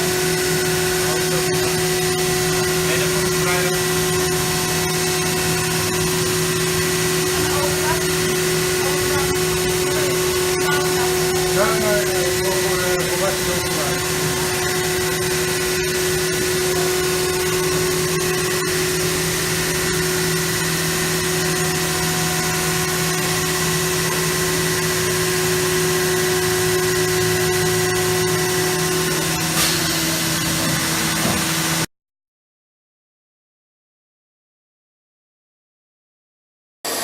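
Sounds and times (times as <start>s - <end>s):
router spindle whine: 0.0s - 31.8s.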